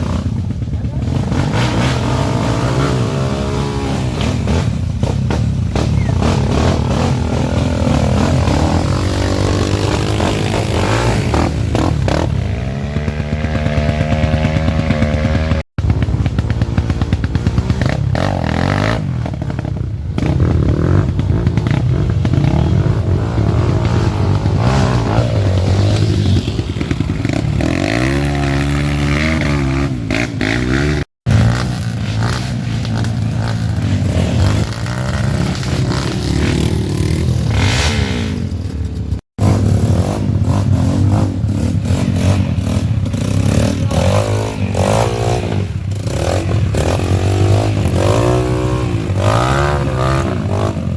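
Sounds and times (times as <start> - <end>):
motorcycle engines revving: 0.0 - 50.9.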